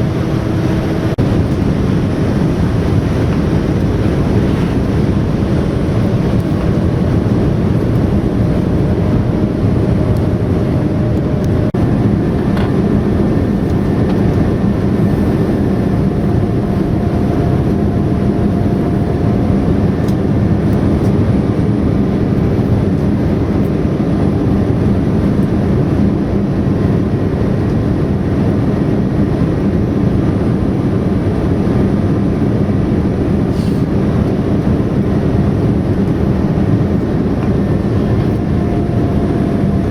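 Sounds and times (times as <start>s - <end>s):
jet engines and airflow: 0.0s - 39.9s.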